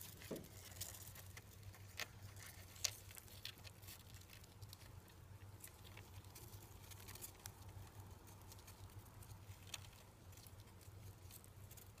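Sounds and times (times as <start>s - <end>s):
faint low hum: 0.0s - 12.0s
soft clicks and rustles: 0.0s - 12.0s.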